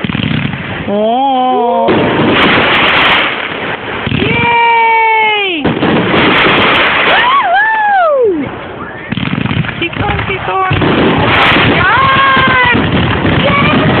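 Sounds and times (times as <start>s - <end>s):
fireworks booming and crackling: 0.0s - 14.0s.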